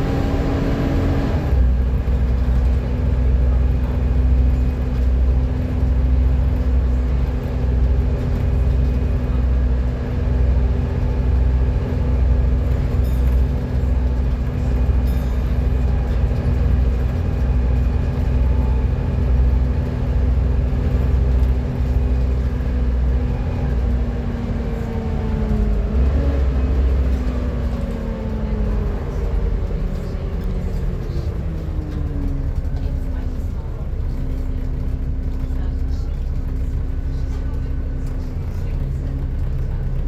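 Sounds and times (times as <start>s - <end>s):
bus whine: 0.0s - 40.0s
low engine throb: 0.0s - 40.0s.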